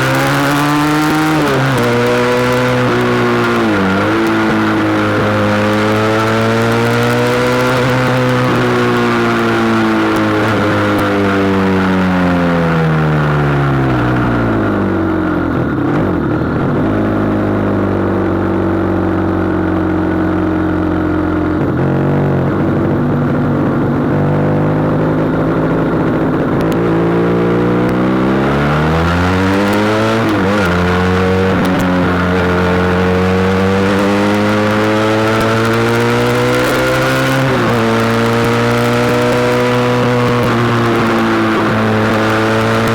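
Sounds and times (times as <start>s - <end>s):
motorcycle engine: 0.0s - 42.9s.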